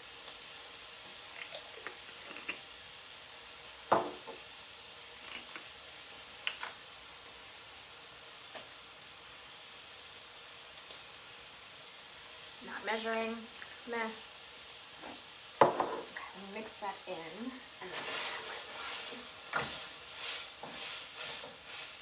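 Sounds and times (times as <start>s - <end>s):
meat sizzling in a skillet: 0.0s - 22.0s.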